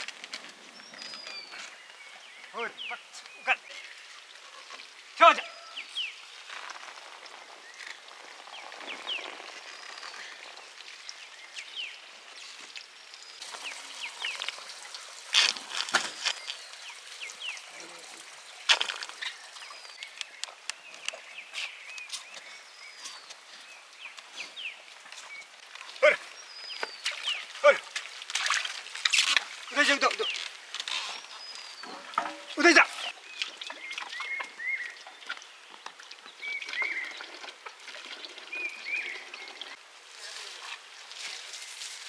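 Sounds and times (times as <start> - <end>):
faint outdoor hiss: 0.0 - 42.0
small birds chirping: 0.7 - 14.7, 16.2 - 27.9, 29.2 - 37.4.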